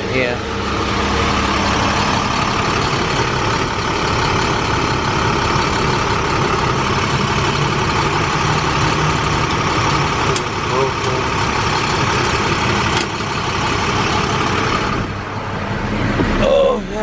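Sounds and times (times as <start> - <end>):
heavy vehicle engine idling: 0.0 - 17.0.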